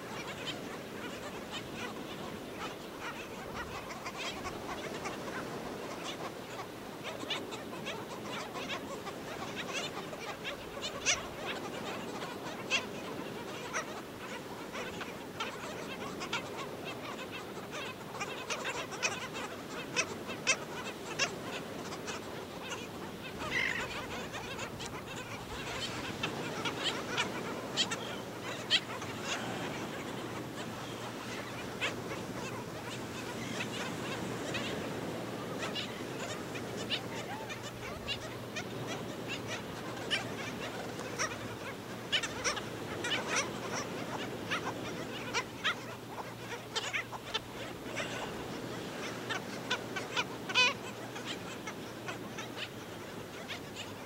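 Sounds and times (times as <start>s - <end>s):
birds yelping calls: 7.1s - 54.0s.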